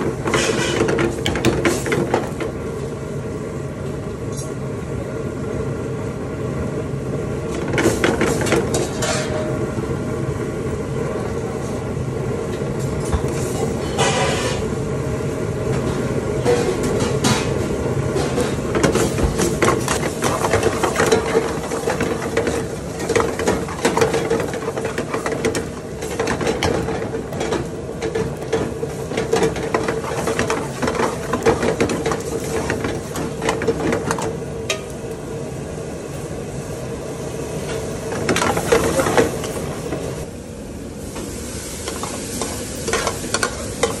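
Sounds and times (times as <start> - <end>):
steady hum: 0.0 - 41.2.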